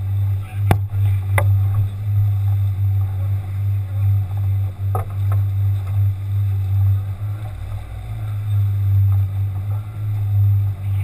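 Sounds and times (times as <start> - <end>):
outboard motor droning: 0.0 - 11.0
water wash: 0.0 - 11.0.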